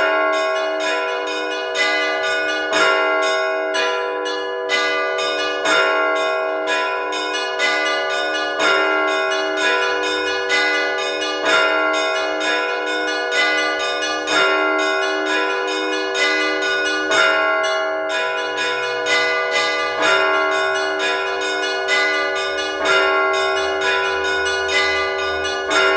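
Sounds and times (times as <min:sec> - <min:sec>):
large bells ringing hum: 0:00.0 - 0:25.9
small bells struck rhythmically: 0:00.0 - 0:25.9.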